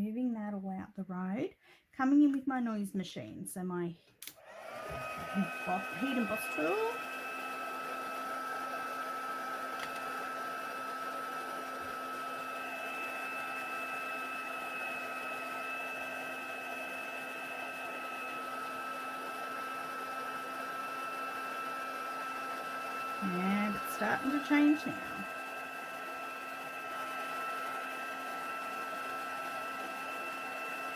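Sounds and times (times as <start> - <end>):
heat gun fan hissing and whining: 4.2 - 30.9.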